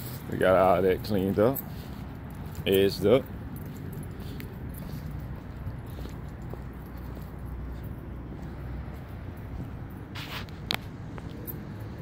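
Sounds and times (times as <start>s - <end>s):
footsteps on asphalt: 0.0s - 12.0s.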